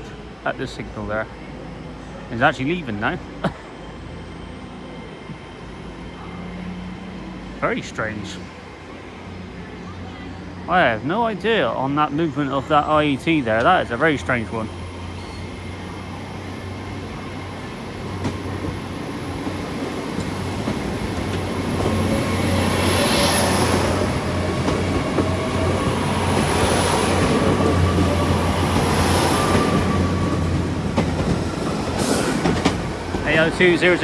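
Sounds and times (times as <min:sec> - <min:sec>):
train high whine: 0:00.0 - 0:34.0
train low hum: 0:00.0 - 0:34.0.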